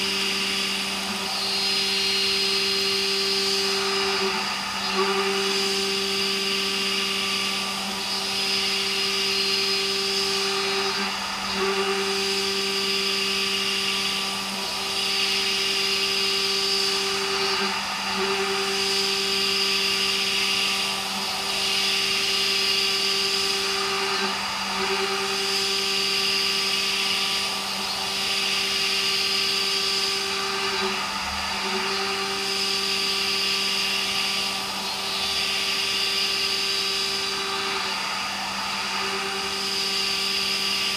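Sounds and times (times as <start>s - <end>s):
milling machine spindle hum: 0.0s - 40.9s.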